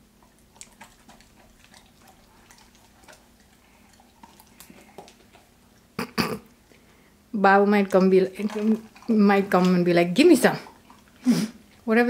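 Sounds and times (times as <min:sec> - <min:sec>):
dog chewing and licking: 0:00.0 - 0:06.9, 0:07.7 - 0:11.9.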